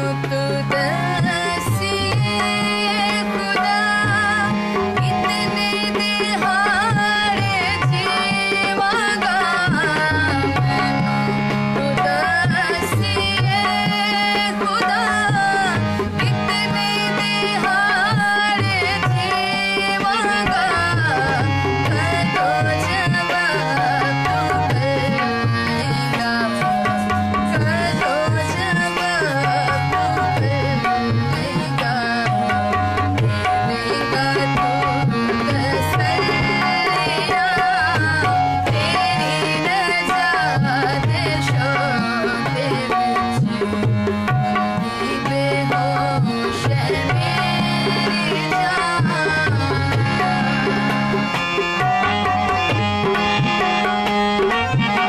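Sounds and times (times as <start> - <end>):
harmonium chords: 0.0 - 55.0
tabla beat: 0.0 - 55.0
woman singing: 0.0 - 55.0.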